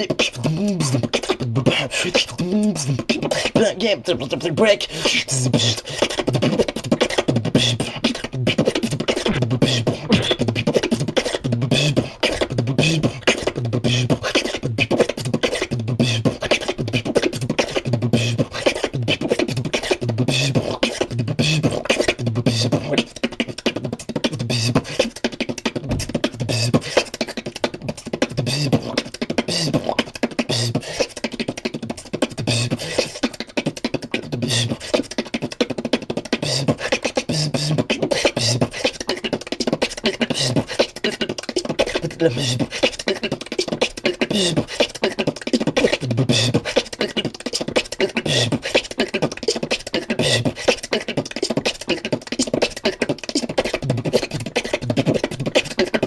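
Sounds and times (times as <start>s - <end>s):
beatboxing: 0.0s - 56.0s.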